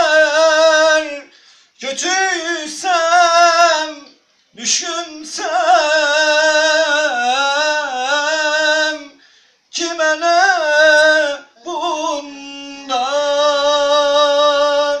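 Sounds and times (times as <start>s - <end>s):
man singing solo: 0.0s - 15.0s.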